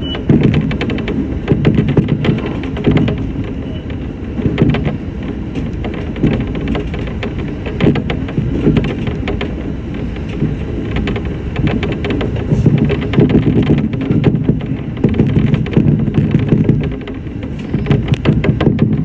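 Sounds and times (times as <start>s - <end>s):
electric train rumbling: 0.0s - 19.0s
rattling and clicking: 0.0s - 19.0s.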